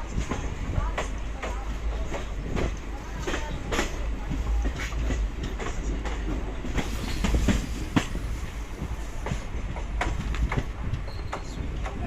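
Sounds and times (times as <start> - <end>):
train coach rumble: 0.0 - 12.0.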